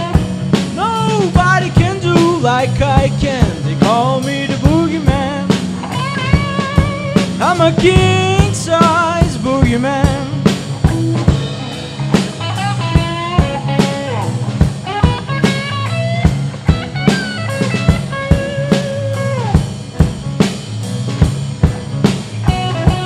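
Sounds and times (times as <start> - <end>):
bass line: 0.0 - 23.0
drum beat with snare: 0.0 - 23.0
electric guitar lead lines: 0.0 - 23.0.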